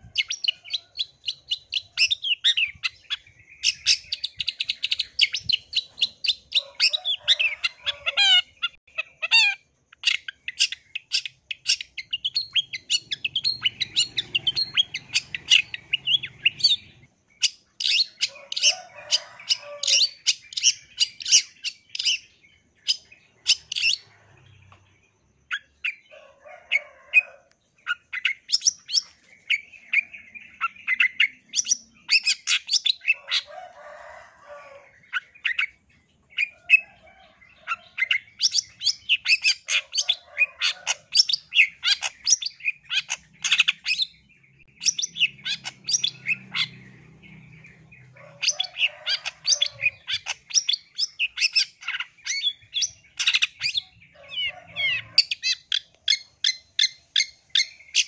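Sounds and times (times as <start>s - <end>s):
harsh scratchy bird calls: 0.0s - 24.8s, 25.5s - 58.0s.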